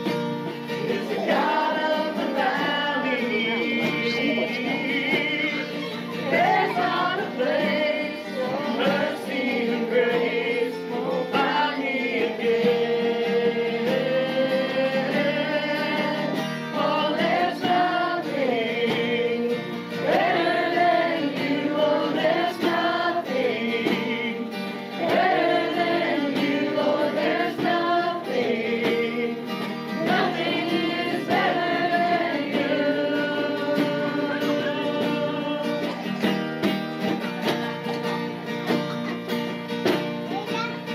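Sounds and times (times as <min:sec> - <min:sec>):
people singing a praise song: 0:00.0 - 0:38.8
guitar: 0:00.0 - 0:40.9.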